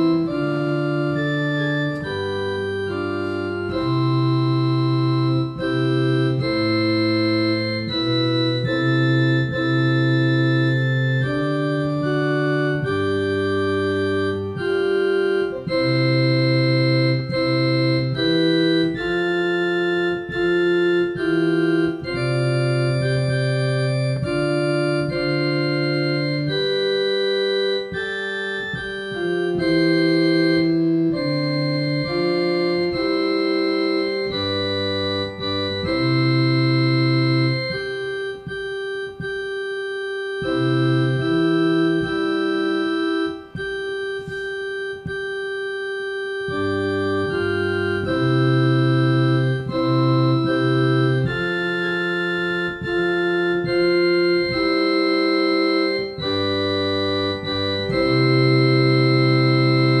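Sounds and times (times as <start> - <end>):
organ playing a hymn: 0.0 - 60.0.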